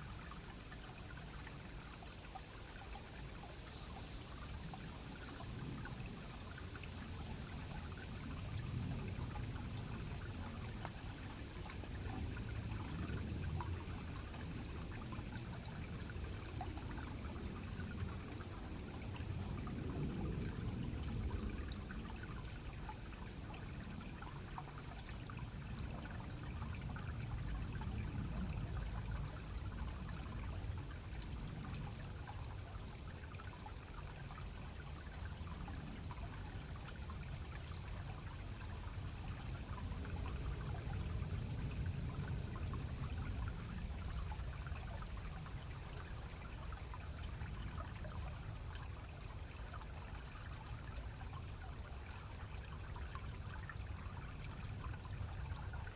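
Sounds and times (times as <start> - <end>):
stream water running: 0.0 - 55.9.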